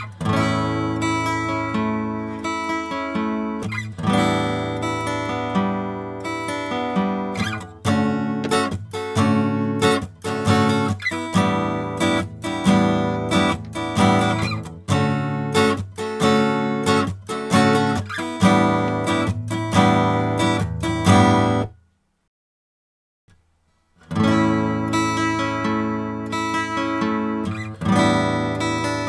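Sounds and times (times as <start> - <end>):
acoustic guitar strumming chords: 0.0 - 21.8, 23.4 - 29.0.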